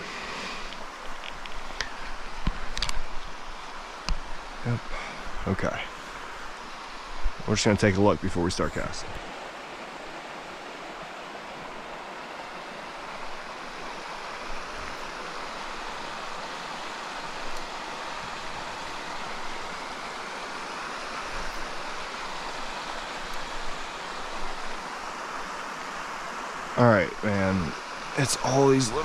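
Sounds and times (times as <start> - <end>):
stream flowing over rocks: 0.0 - 29.0.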